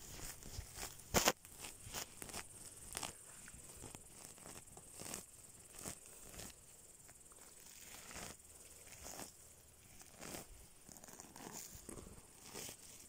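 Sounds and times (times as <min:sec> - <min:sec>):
moss rustling and tearing: 0:00.0 - 0:13.0.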